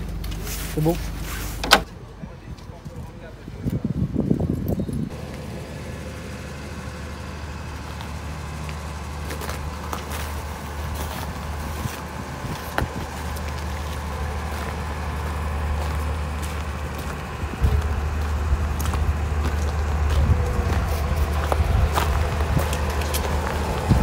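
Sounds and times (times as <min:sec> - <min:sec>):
diesel generator droning: 0:00.0 - 0:24.0.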